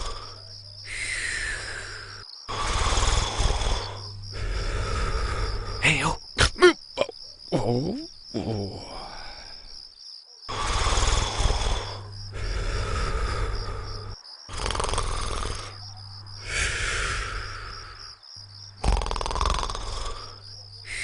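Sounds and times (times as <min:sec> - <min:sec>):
cartoon snoring: 0:00.0 - 0:09.6, 0:10.5 - 0:18.2, 0:18.8 - 0:21.0
crickets chirping: 0:00.0 - 0:21.0.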